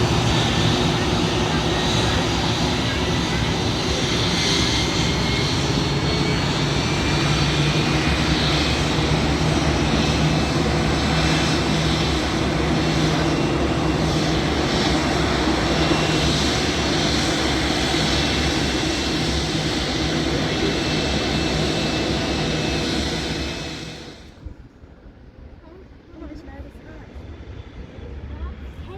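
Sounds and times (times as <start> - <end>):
jet engines at takeoff power: 0.0 - 28.9.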